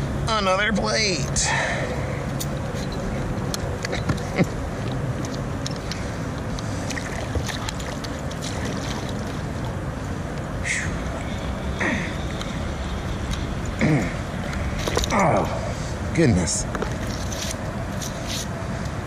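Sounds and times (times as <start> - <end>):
wind: 0.0 - 19.0
water around a kayak: 0.3 - 19.0.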